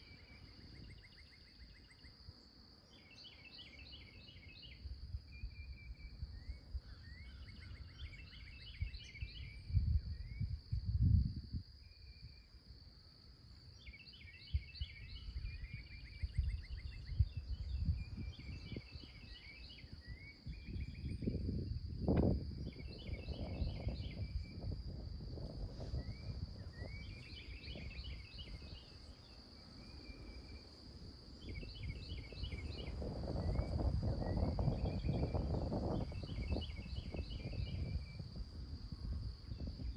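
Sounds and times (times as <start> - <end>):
high insect drone: 0.0 - 39.9
songbird singing: 0.0 - 39.9.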